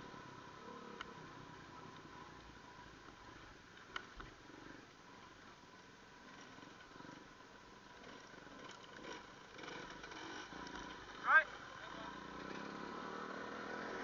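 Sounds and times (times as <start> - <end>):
dirt bike engines rumbling: 0.0 - 14.0.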